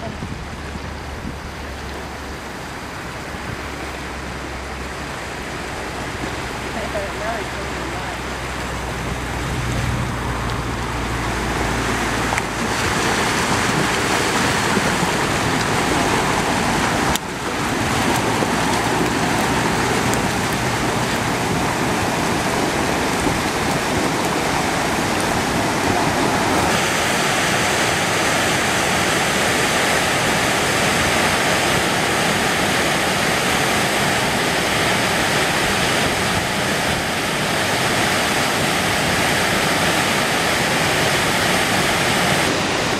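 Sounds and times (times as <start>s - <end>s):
muddy floodwater rushing: 0.0s - 42.9s.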